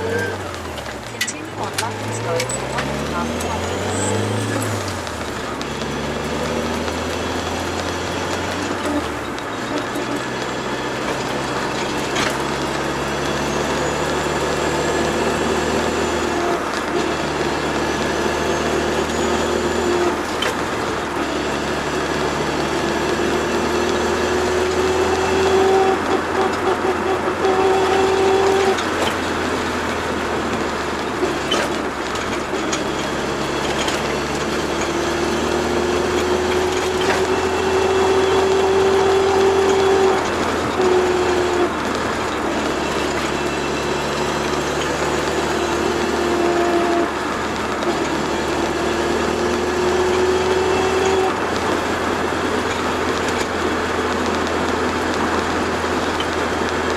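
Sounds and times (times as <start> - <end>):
car engine droning: 0.0 - 56.9.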